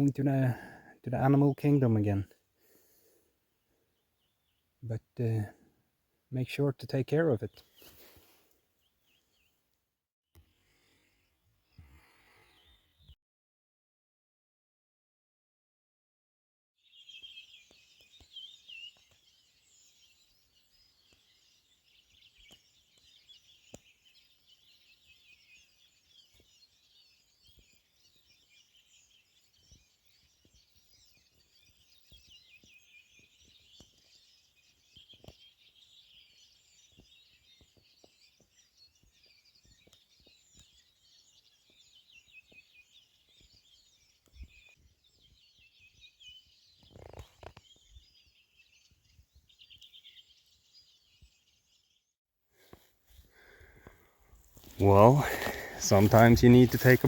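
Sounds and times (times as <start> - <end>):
small birds singing and chirping: 0.0 - 5.8, 6.4 - 9.6, 10.4 - 13.2, 16.8 - 57.0.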